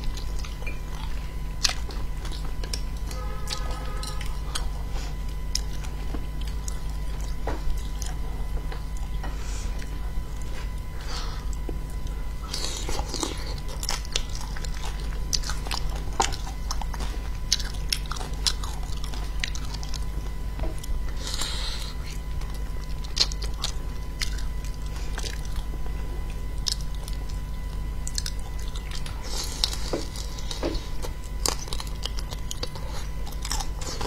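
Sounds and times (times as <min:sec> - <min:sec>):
chewing and biting food: 0:00.0 - 0:34.0
steady low hum: 0:00.0 - 0:34.0.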